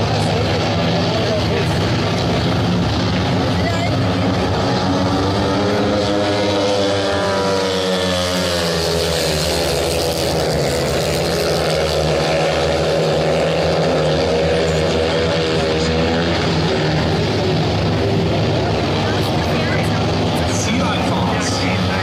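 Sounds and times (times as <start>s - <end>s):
motorcycle engines racing: 0.0s - 22.0s.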